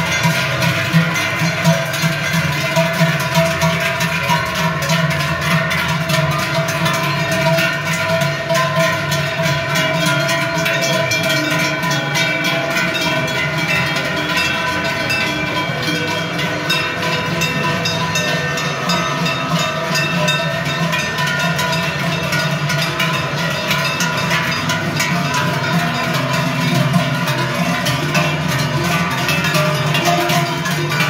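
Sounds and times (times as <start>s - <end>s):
cowbells clanging: 0.0s - 31.0s.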